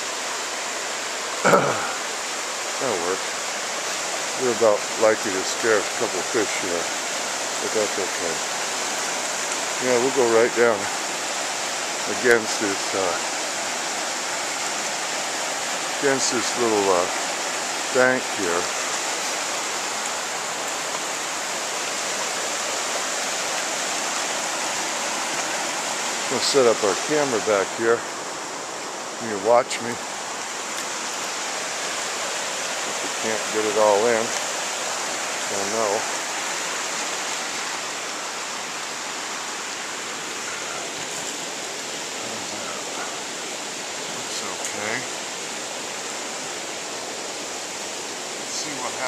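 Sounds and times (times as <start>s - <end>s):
creek running over rocks: 0.0s - 49.0s.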